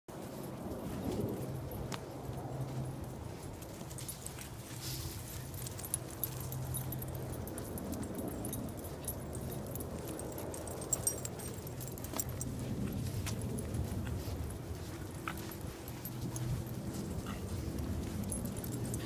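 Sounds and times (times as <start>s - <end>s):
dogs moving in dry leaves: 0.1s - 19.0s
metallic jingling of collar tags: 2.5s - 19.0s.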